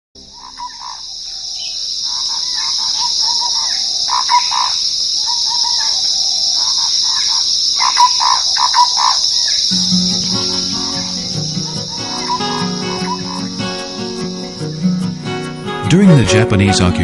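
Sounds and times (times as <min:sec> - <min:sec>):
birds calling: 0:00.2 - 0:15.8
high-pitched insect chorus: 0:00.2 - 0:15.8.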